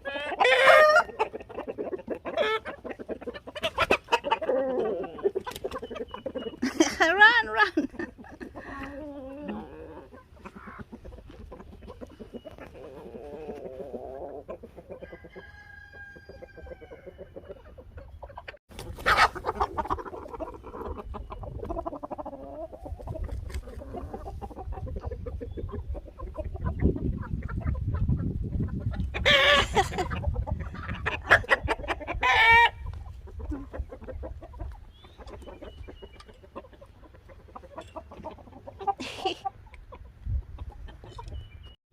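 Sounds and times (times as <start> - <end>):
chickens clucking: 0.0 - 41.8.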